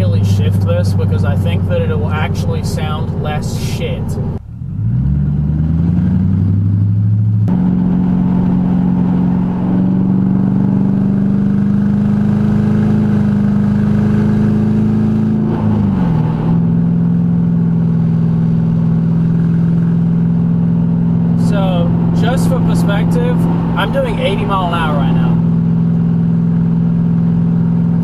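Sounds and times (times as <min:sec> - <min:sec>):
car engine at highway speed: 0:00.0 - 0:28.0.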